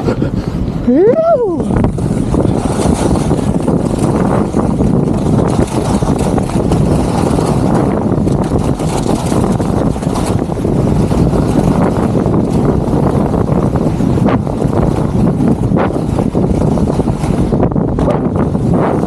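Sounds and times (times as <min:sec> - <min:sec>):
wind buffeting microphone: 0:00.0 - 0:19.0
skis running over packed snow: 0:01.9 - 0:19.0.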